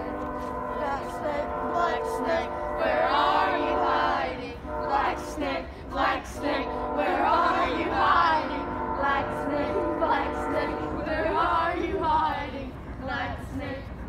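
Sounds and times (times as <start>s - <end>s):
steady droning hum: 0.0s - 14.0s
group singing: 0.8s - 13.9s.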